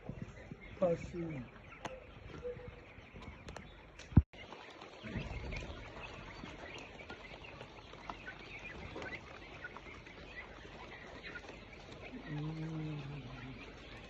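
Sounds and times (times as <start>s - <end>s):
chickens chirping: 0.0s - 14.0s.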